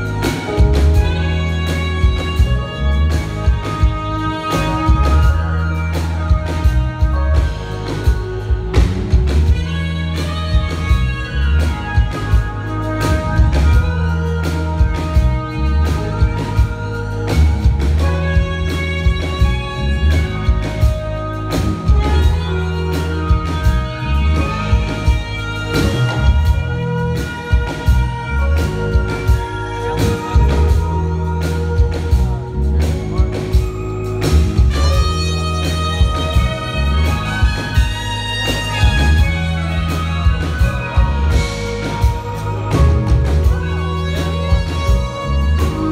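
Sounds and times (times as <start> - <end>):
drum kit beat: 0.0 - 45.9
electric bass line: 0.0 - 45.9
keyboards: 0.0 - 45.9
trumpet playing held notes: 0.0 - 45.9.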